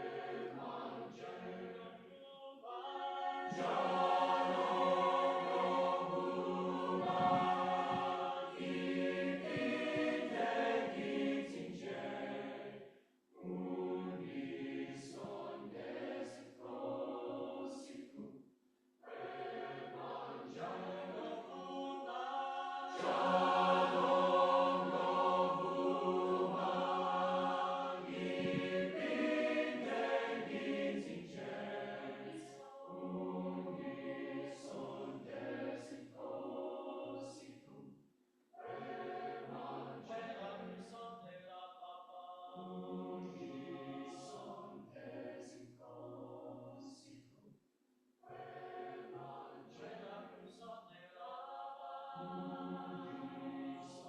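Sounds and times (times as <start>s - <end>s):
choir singing: 0.0s - 18.3s, 19.0s - 37.9s, 38.6s - 47.2s, 48.2s - 54.0s.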